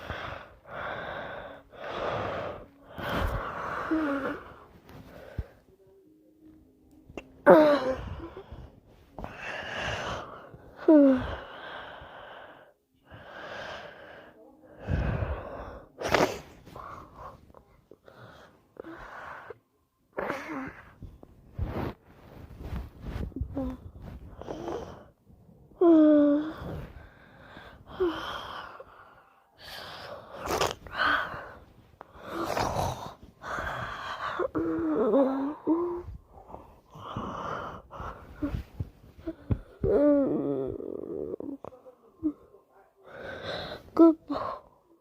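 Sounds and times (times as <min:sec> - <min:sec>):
noisy breaths: 0:00.0 - 0:05.9, 0:07.8 - 0:19.7, 0:20.5 - 0:40.0, 0:42.3 - 0:44.9.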